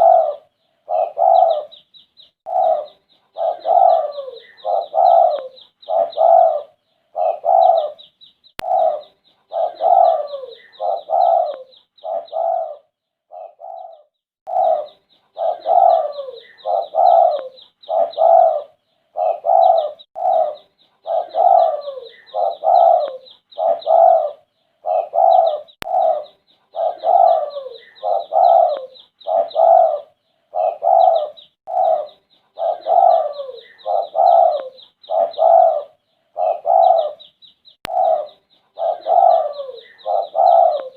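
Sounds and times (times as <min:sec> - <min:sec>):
dove cooing: 0:00.0 - 0:01.8, 0:02.4 - 0:40.9.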